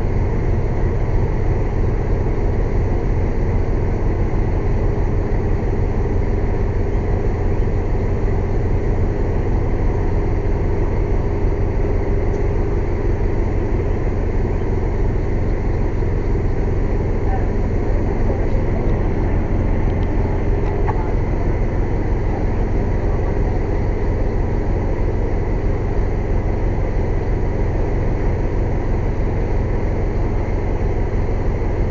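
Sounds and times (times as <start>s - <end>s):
air compressor running: 0.0s - 31.9s.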